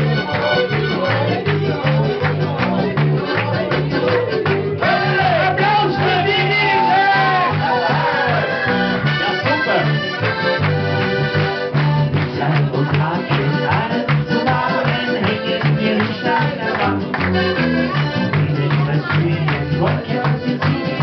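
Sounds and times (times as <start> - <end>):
bass guitar: 0.0 - 21.0
button accordion: 0.0 - 21.0
guitar: 0.0 - 21.0.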